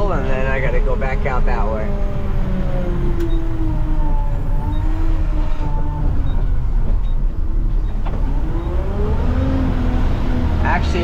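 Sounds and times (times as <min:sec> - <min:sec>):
garbage truck engine rumbling: 0:00.0 - 0:11.0.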